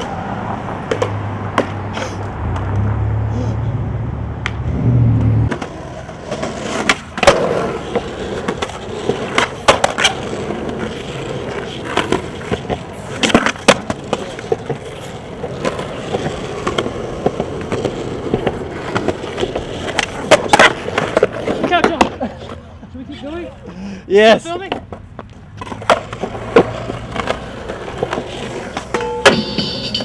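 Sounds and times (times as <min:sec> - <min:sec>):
skateboard clacking on ground: 0:00.0 - 0:02.9, 0:05.5 - 0:23.6, 0:24.3 - 0:30.0
skateboard wheels rolling on concrete: 0:00.0 - 0:30.0.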